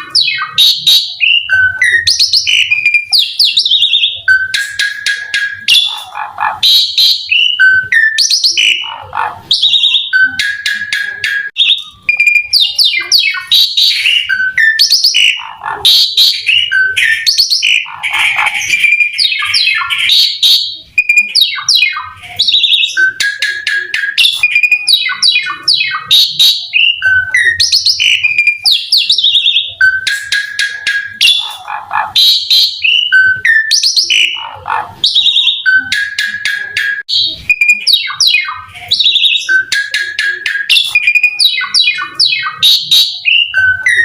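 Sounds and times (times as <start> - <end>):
starling singing: 0.0 - 44.0.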